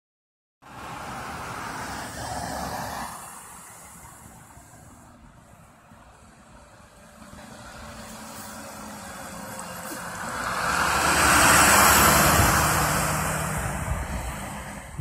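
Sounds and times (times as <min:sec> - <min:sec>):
refuse truck driving past: 0:00.6 - 0:15.0.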